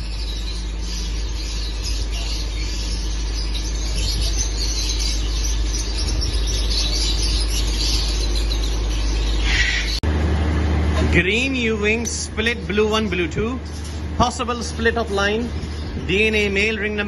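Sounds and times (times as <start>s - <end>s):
lovebirds chattering: 0.0s - 10.0s, 11.3s - 17.0s.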